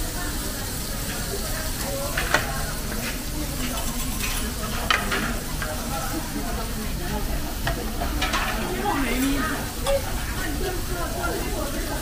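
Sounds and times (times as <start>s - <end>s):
meat sizzling on griddle: 0.0s - 12.0s.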